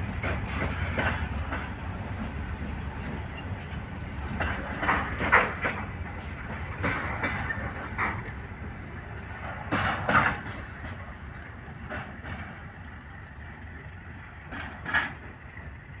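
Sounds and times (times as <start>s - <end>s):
freight train wagons rumbling: 0.0s - 16.0s
wheels clacking over rail joints: 0.0s - 16.0s.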